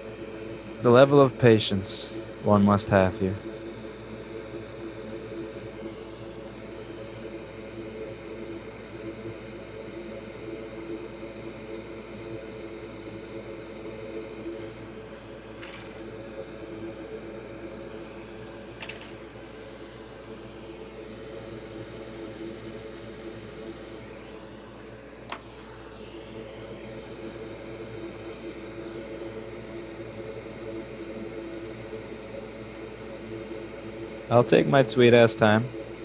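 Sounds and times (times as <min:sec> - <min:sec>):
hot air blower whirring hiss: 0:00.0 - 0:36.0.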